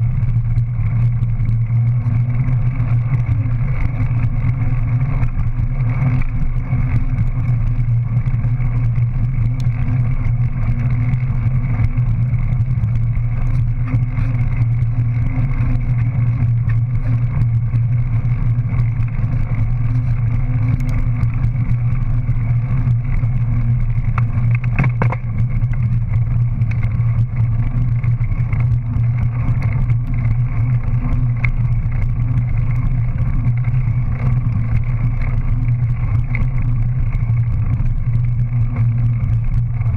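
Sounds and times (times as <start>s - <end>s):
bike droning hum: 0.0s - 39.9s.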